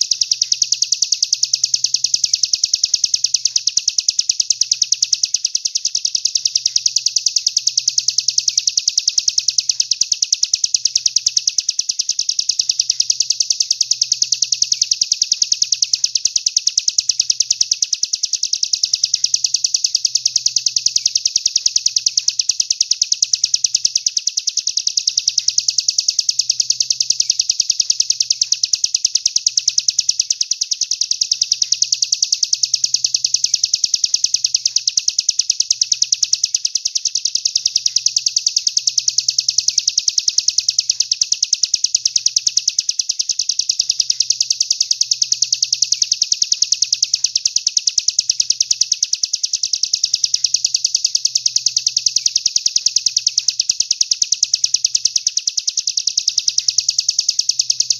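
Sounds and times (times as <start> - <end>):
songbird trilling: 0.0 - 57.5.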